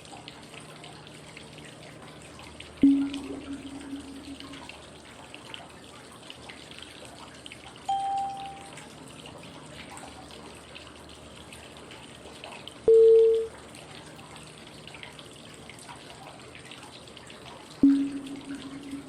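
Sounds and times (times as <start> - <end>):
flowing water noise: 0.0 - 19.0.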